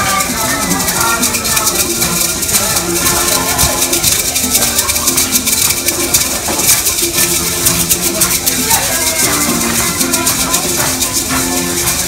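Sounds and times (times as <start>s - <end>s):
maracas rattling: 0.0s - 12.0s
upbeat music with held notes: 0.0s - 12.0s.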